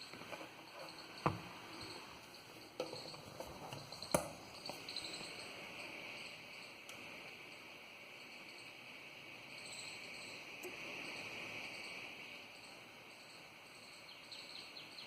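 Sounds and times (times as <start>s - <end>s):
computer fan whirring: 0.0s - 15.0s.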